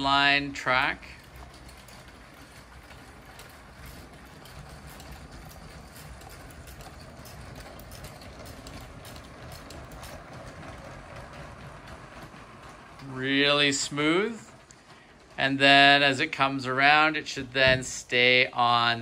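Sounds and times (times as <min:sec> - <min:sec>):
toy train wheels clicking on track: 0:00.0 - 0:19.0.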